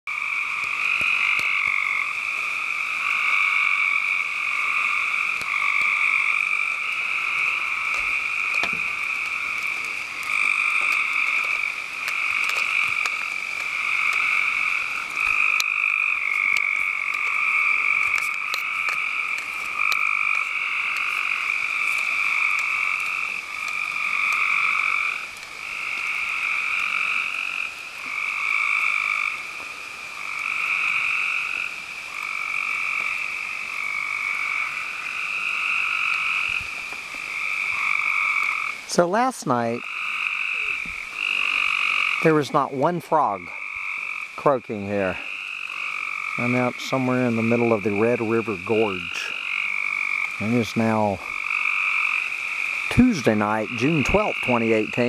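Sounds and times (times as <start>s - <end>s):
frogs calling: 0.1s - 55.0s.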